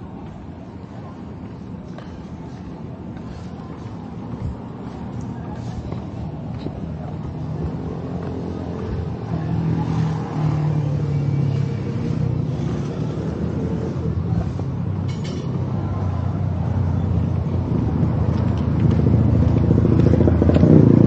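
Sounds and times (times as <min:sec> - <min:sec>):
vehicle engine running low revs: 0:02.8 - 0:15.0, 0:15.6 - 0:21.0.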